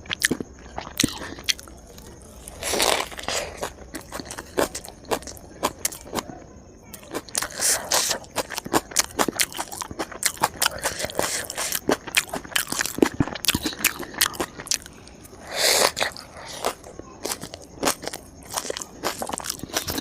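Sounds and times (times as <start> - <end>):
crunching and chewing crisp food: 0.0 - 20.0.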